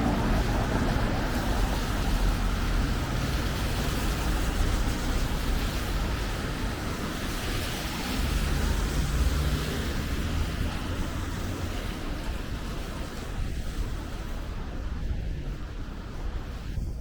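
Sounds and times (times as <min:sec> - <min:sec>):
road traffic hiss and rumble: 0:00.0 - 0:17.0
tyres on wet pavement: 0:00.0 - 0:17.0.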